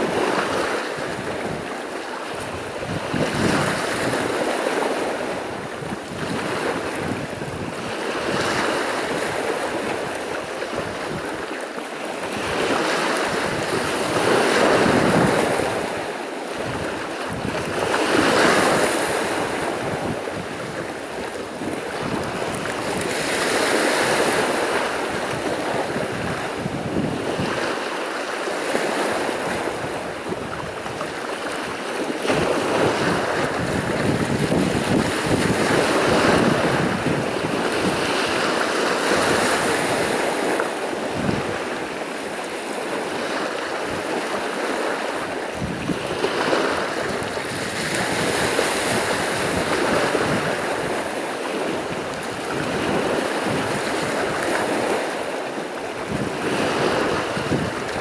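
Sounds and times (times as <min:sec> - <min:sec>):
waves breaking on shore: 0:00.0 - 0:58.0.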